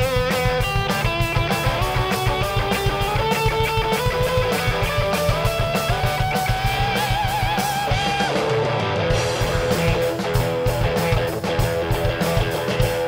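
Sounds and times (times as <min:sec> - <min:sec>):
bass guitar: 0:00.0 - 0:13.0
electric guitar lead: 0:00.0 - 0:13.0
steady drum beat: 0:00.0 - 0:13.0.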